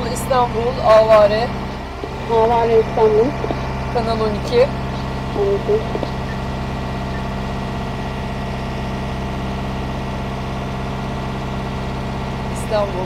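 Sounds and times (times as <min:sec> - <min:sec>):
diesel engine low hum: 0:00.0 - 0:13.0.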